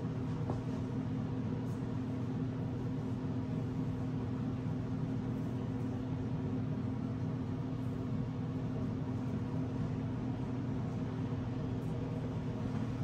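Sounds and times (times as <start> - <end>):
low buzzy machine hum: 0.0 - 13.0.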